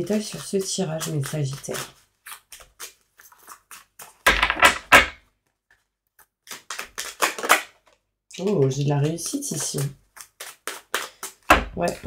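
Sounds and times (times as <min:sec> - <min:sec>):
cards being shuffled: 0:00.0 - 0:04.8, 0:05.7 - 0:12.0.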